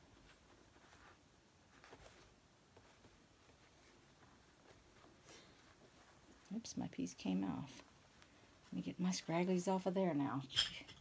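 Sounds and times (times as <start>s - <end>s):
fabric rustling: 0.0s - 10.6s.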